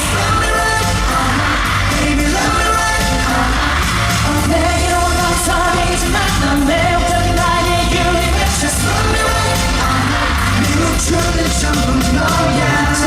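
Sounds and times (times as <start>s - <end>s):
pop dance track with male vocals: 0.0s - 13.0s.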